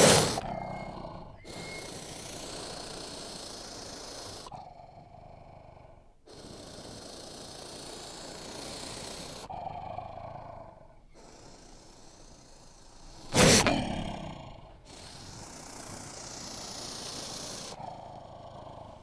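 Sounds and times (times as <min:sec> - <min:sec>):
badger growling: 0:00.0 - 0:19.0.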